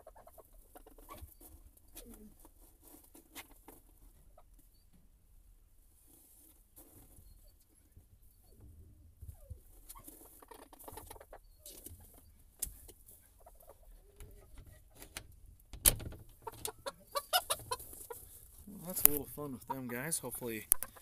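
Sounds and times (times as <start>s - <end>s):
pecking and scratching in litter: 0.0s - 4.9s, 5.8s - 15.4s, 16.3s - 21.0s
chickens clucking softly: 0.0s - 5.0s, 7.0s - 15.4s, 16.3s - 21.0s.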